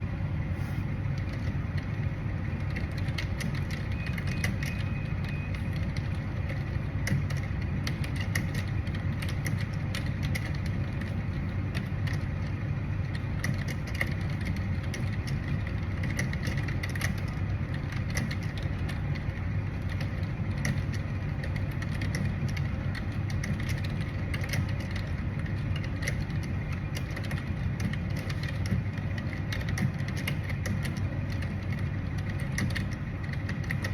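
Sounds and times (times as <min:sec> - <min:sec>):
steady low rumble: 0:00.0 - 0:33.9
fast keyboard typing: 0:01.0 - 0:33.9.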